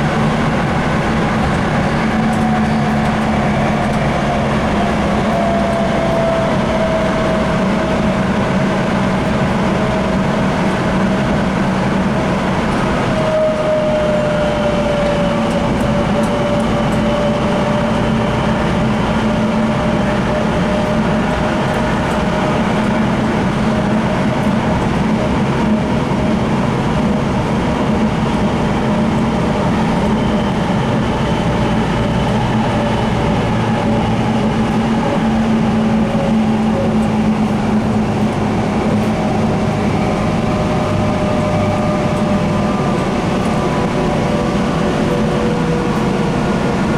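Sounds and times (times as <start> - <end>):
train hum: 0.0 - 46.9
train interior rumble: 0.0 - 46.9.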